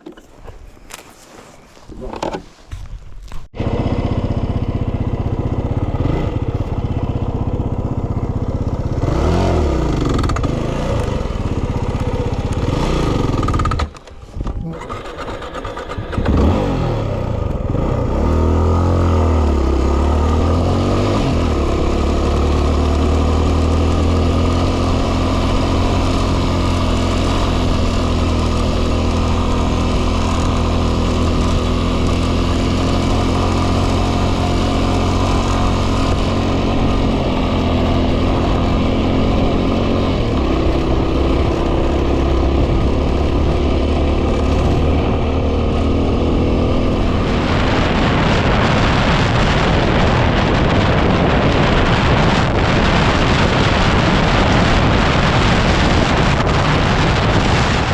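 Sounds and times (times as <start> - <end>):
motorcycle engine revving: 3.5 - 57.9
wind noise on microphone: 7.6 - 57.9.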